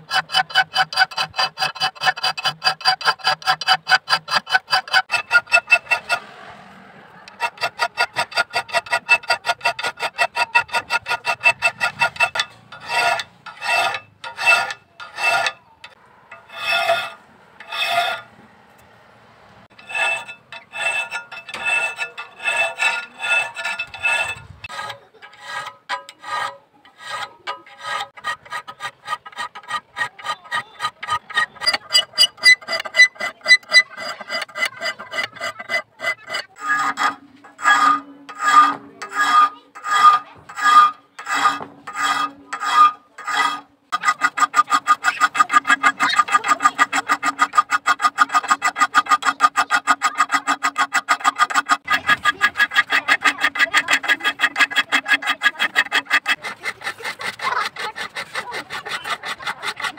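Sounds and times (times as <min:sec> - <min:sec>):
file rasping on steel: 0:00.0 - 0:18.4, 0:19.6 - 0:59.9.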